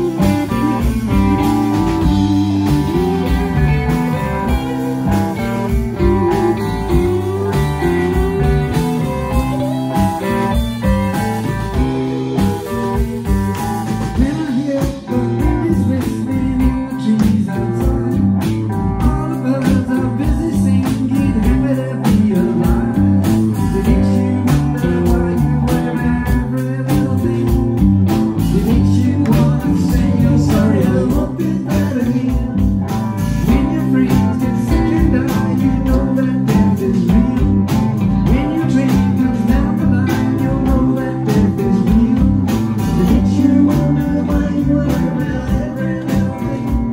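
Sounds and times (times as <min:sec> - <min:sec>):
bass guitar: 0:00.0 - 0:46.9
drum kit beat: 0:00.0 - 0:46.9
electric guitars: 0:00.0 - 0:46.9.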